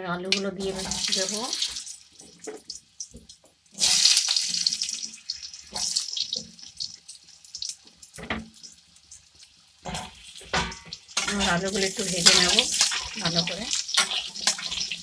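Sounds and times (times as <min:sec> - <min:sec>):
potatoes sizzling in hot oil: 0:00.2 - 0:15.0.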